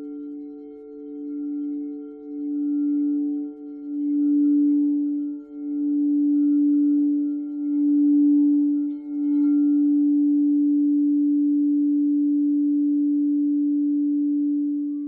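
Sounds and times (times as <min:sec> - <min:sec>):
crystal singing bowl tone: 0:00.0 - 0:15.0.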